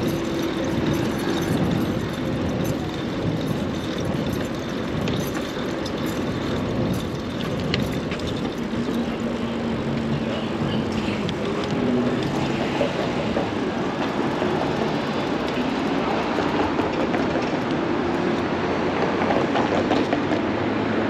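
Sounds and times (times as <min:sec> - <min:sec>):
city traffic rumble: 0:00.0 - 0:21.0.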